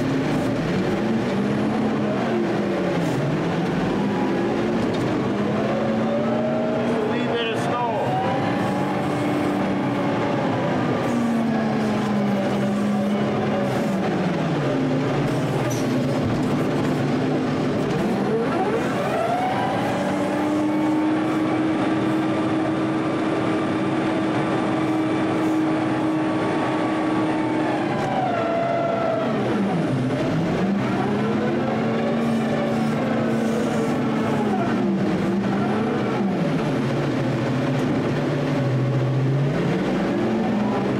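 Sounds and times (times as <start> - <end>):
loader diesel engine running: 0.0 - 40.9.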